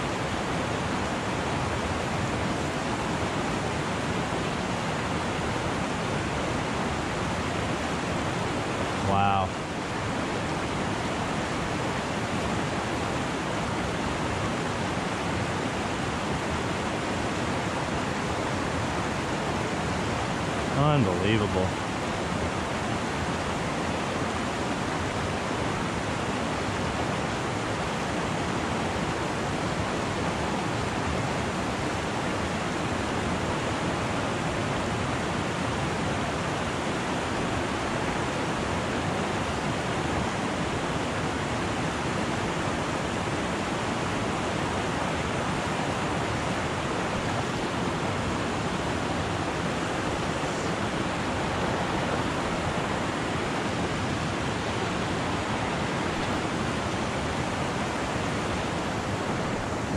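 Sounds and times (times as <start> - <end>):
creek rushing over rocks: 0.1 - 59.9.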